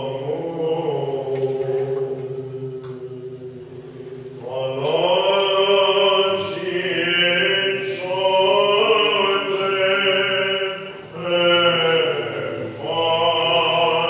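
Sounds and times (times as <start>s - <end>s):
man chanting: 0.0s - 3.6s, 4.4s - 14.0s
steady low drone: 0.0s - 14.0s.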